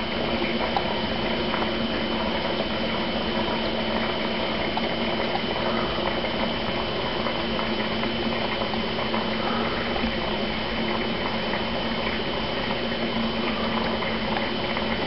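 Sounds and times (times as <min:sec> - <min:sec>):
aquarium filter bubbling: 0:00.0 - 0:15.0.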